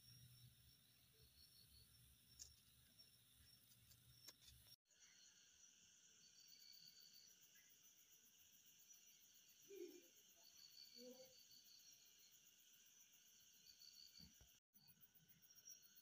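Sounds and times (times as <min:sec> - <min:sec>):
night insects chirping: 0:00.0 - 0:16.0.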